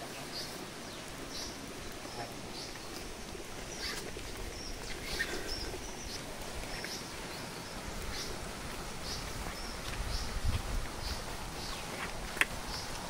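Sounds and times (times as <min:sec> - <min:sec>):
background hiss: 0:00.0 - 0:13.0
birds chirping: 0:00.0 - 0:13.0.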